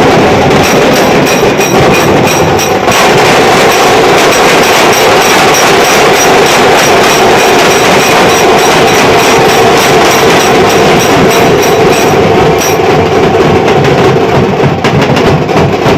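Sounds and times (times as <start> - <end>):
bass drums beaten with sticks: 0.0 - 15.9.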